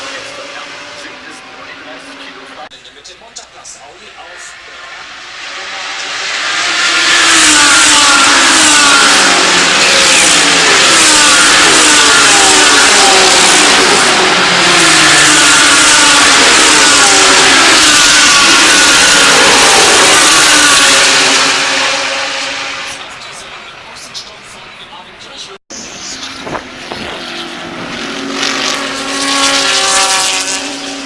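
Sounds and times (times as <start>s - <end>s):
race cars racing: 0.0s - 31.0s.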